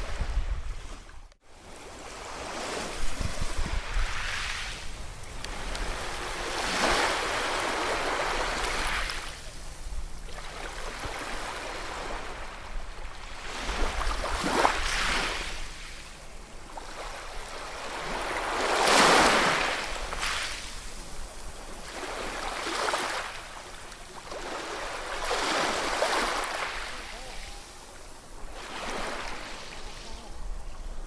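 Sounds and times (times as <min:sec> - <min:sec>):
ocean waves breaking on shore: 0:00.0 - 0:31.0.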